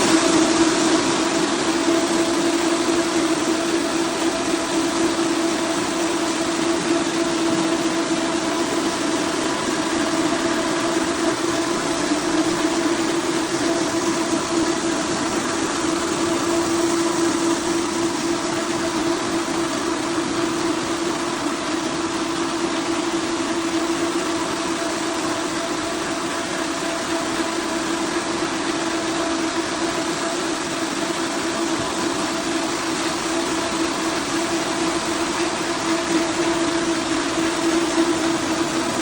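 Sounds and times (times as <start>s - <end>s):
floor machine motor hum: 0.0s - 39.0s.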